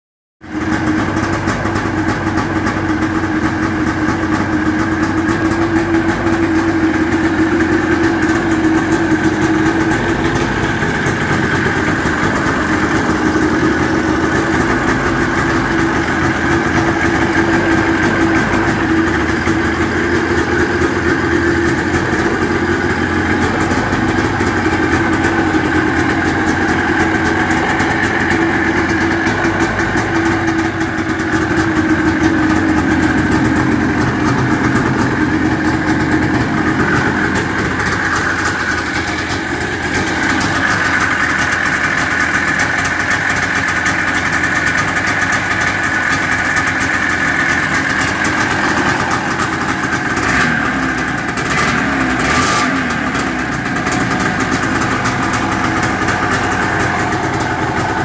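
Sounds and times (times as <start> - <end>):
snowmobile engine idling: 0.4 - 58.0.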